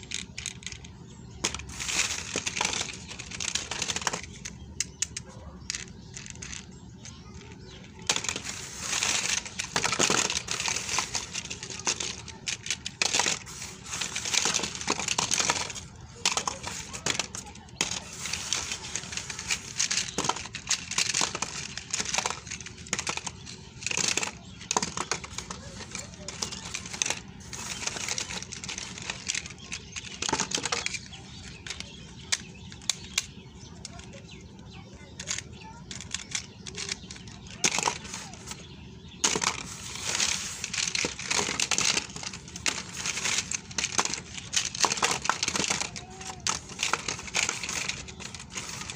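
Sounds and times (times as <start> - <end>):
toy cars clattering together: 0.0 - 48.9.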